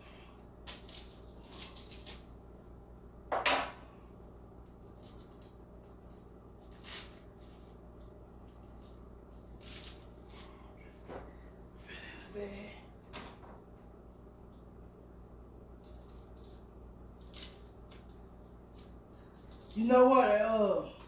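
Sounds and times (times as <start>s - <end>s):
onion skin crackling and rustling: 0.0s - 2.6s, 4.2s - 13.8s, 15.7s - 21.0s.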